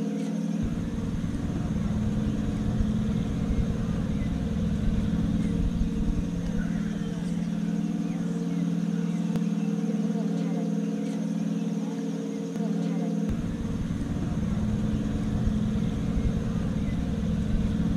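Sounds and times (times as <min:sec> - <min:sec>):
boat engine humming: 0:00.6 - 0:10.8, 0:11.4 - 0:17.9.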